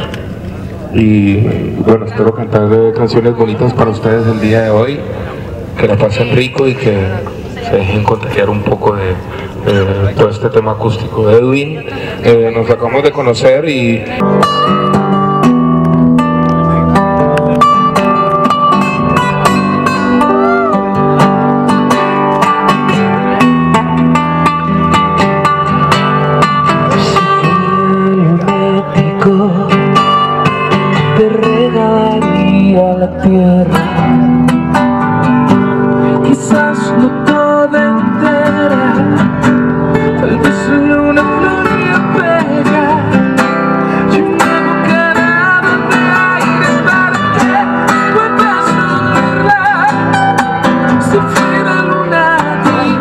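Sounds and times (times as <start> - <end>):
strummed acoustic guitar: 0.0 - 53.0.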